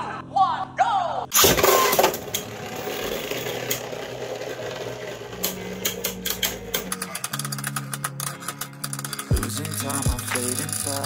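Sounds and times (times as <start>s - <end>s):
spinning tops clashing clicks: 1.4s - 11.0s
spinning tops whirring: 1.4s - 11.0s.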